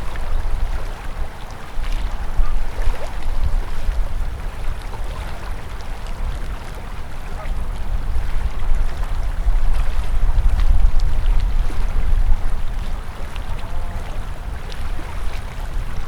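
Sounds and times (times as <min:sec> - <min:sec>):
river water rushing: 0:00.0 - 0:16.0
water trickles and splashes: 0:00.0 - 0:16.0.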